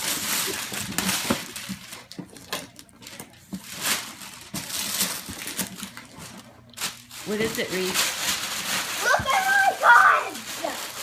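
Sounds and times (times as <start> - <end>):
wrapping paper rustling and tearing: 0.0 - 11.0.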